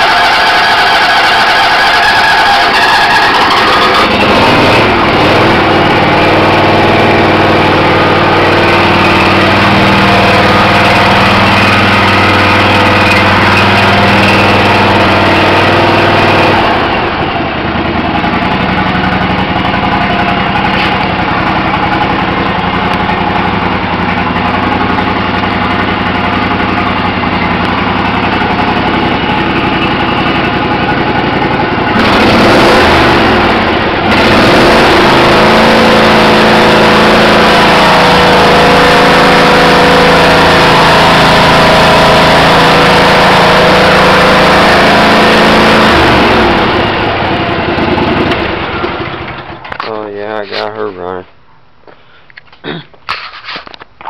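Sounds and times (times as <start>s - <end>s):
small gasoline engine running: 0.0s - 49.8s.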